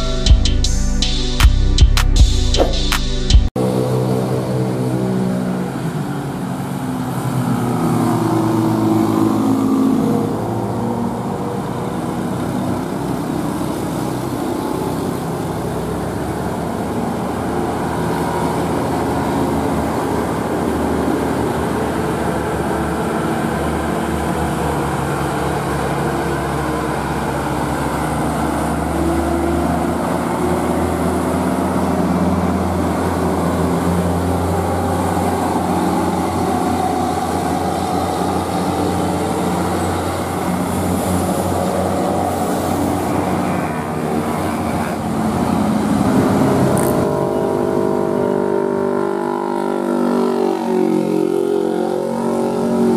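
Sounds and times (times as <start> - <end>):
diesel truck engines under load: 2.0 - 49.1.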